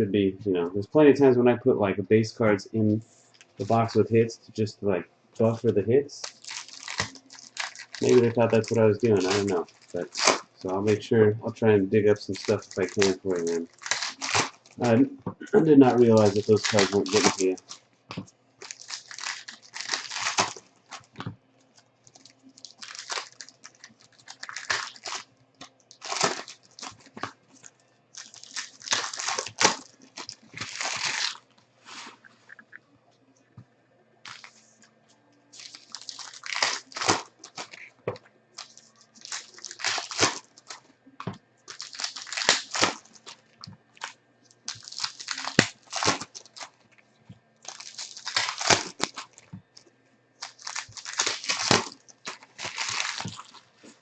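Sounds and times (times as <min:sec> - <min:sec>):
plastic and foil packaging crinkling: 0:03.2 - 0:04.0, 0:05.4 - 0:11.1, 0:12.0 - 0:15.0, 0:15.6 - 0:32.6, 0:34.3 - 0:34.6, 0:35.5 - 0:54.0.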